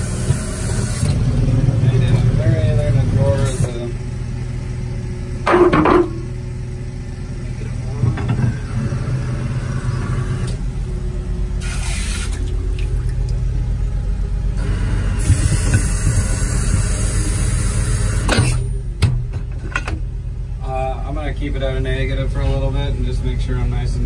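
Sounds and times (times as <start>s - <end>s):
drill low rumble: 0.0s - 24.0s.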